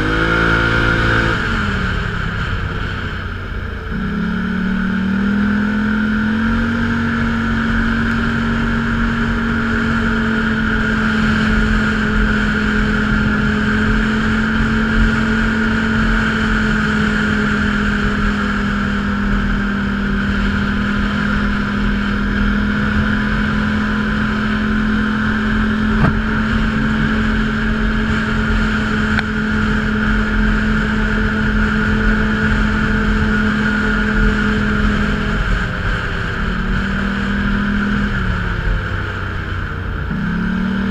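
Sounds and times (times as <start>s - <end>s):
off-road vehicle engine at high revs: 0.0s - 40.9s.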